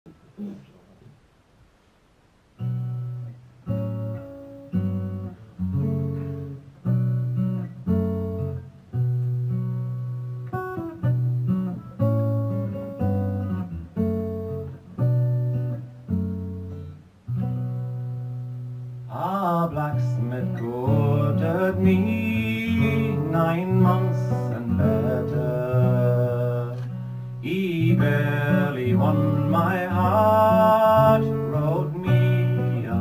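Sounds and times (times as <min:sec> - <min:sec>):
acoustic guitar strumming: 0:02.6 - 0:33.0.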